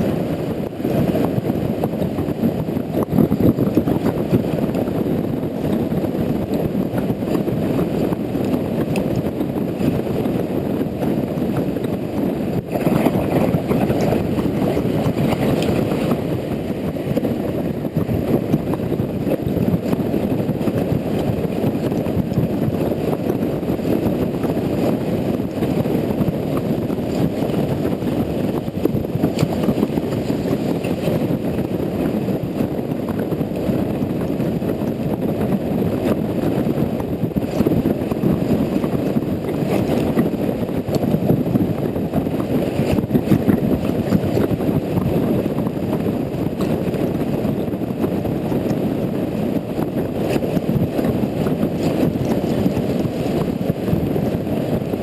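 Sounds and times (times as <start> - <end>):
motorcycle rumble: 0.0 - 55.0
wind noise: 0.0 - 55.0.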